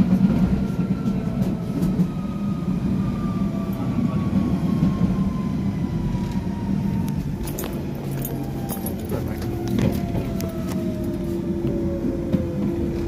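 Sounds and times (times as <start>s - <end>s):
wheel and rail rumble: 0.0s - 13.0s.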